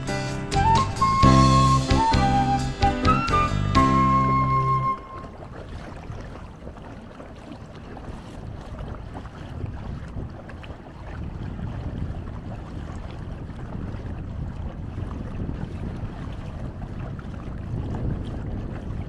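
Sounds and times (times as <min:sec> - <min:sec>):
water noise: 0:00.0 - 0:19.0
wind rumbling on microphone: 0:00.0 - 0:19.0.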